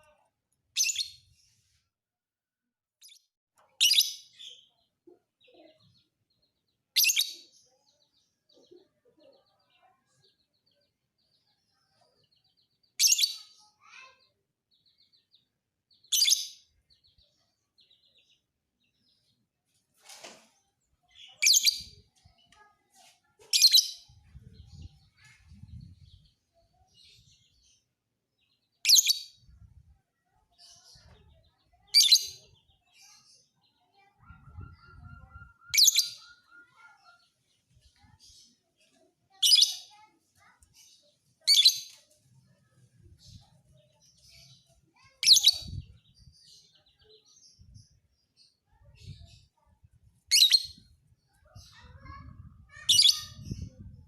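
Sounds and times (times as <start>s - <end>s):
bird high-pitched chirps: 0.0s - 1.3s, 3.0s - 19.3s, 21.1s - 27.6s, 28.5s - 54.0s.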